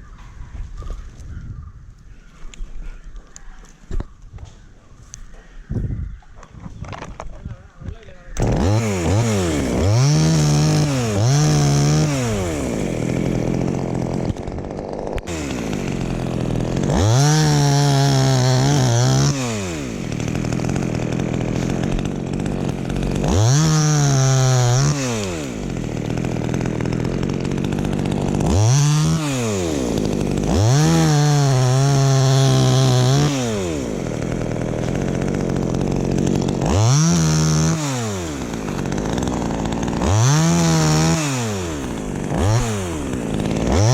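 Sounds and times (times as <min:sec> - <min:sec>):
chainsaw revving: 0:08.3 - 0:43.9.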